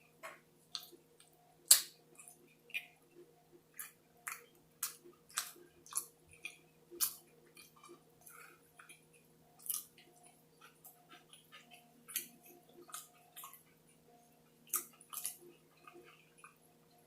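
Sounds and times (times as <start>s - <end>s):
person chewing food: 0.2s - 17.0s.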